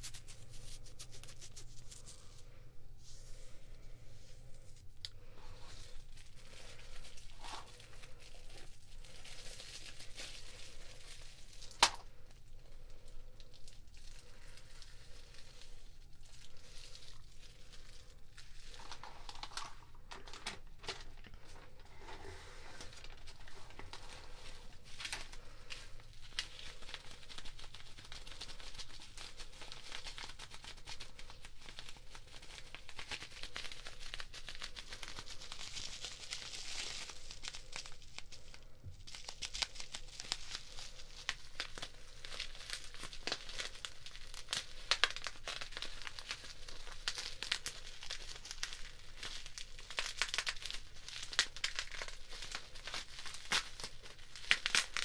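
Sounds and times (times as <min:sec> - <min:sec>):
packaging crinkling: 0:00.0 - 0:55.0.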